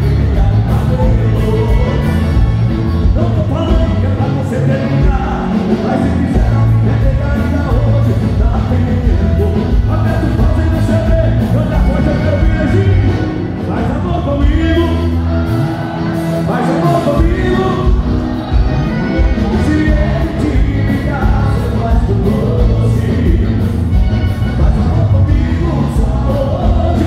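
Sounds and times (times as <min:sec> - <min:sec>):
accordion: 0:00.0 - 0:27.0
drums: 0:00.0 - 0:27.0
electric guitar: 0:00.0 - 0:27.0
heavy bass: 0:00.0 - 0:27.0
man singing: 0:00.0 - 0:27.0.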